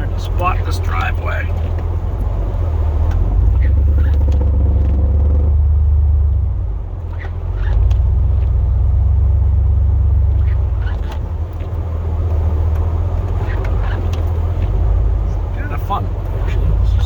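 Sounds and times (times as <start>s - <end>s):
truck engine rumbling under load: 0.0s - 17.0s.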